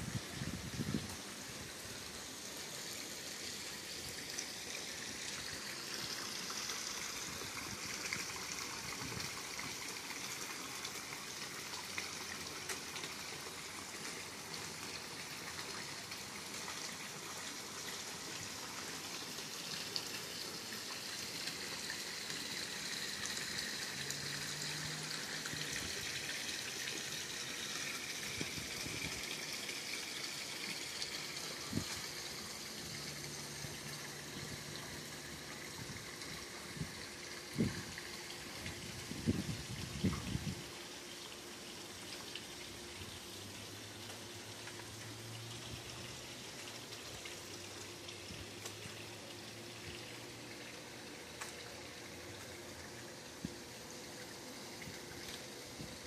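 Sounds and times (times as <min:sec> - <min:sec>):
waterfall splashing into pool: 0:00.0 - 0:56.0.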